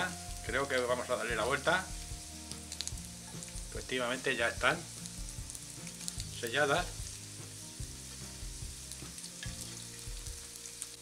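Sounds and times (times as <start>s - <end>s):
potato slices sizzling in oil: 0.0s - 11.0s.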